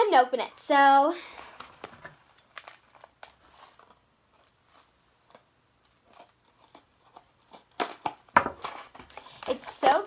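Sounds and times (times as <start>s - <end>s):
packaging crackling and rustling: 1.3s - 10.0s.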